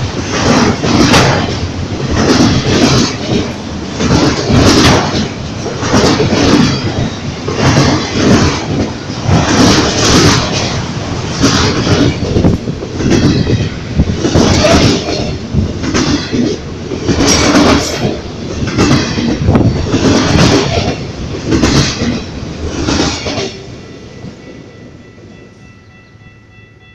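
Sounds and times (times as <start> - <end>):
train wheels clacking over rail joints: 0.0 - 24.4.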